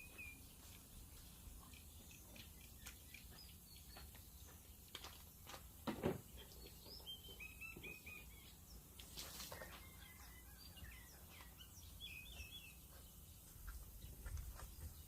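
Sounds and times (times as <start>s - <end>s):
faint birds chirping: 0.0s - 15.0s
low background hum: 0.0s - 15.0s.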